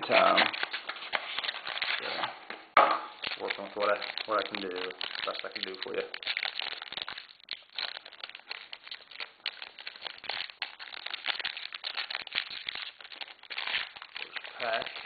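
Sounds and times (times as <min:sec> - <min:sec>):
foil wrapper tearing and crinkling: 0:00.0 - 0:02.3, 0:03.1 - 0:15.0.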